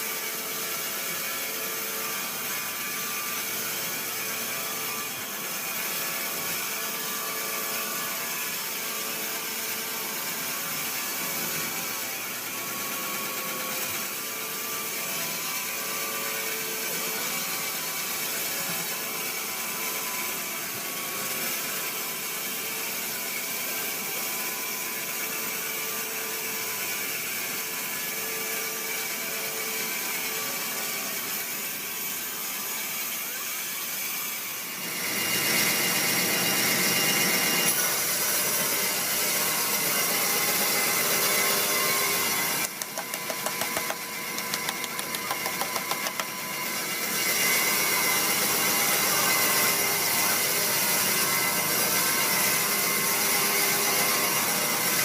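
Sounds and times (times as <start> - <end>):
sawmill machinery sawing log: 0.1 - 55.0.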